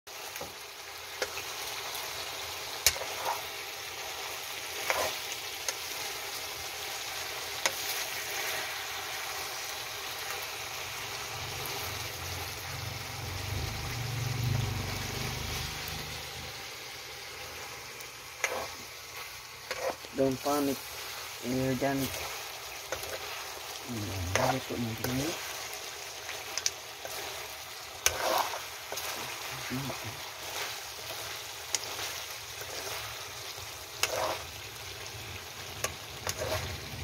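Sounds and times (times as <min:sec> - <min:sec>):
food frying hiss: 0:00.1 - 0:37.0.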